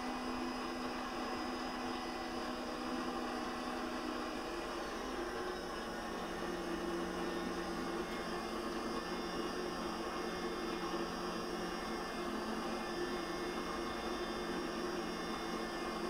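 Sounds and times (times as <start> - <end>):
electric stand mixer running: 0.0 - 16.0.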